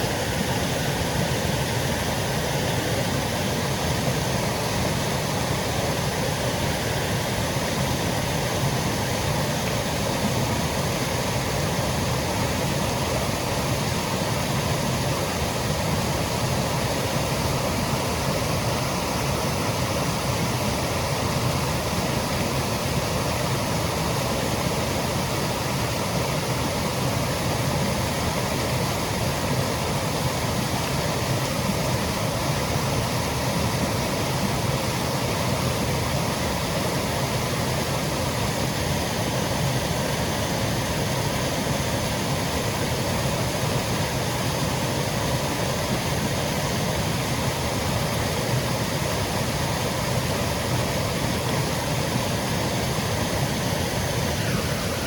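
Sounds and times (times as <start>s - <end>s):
waterfall cascading over rocks: 0.0s - 55.0s.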